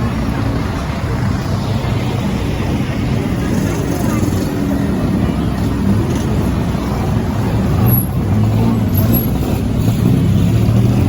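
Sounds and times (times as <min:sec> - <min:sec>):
street traffic: 0:00.0 - 0:11.0
vehicle engine running: 0:00.0 - 0:11.0.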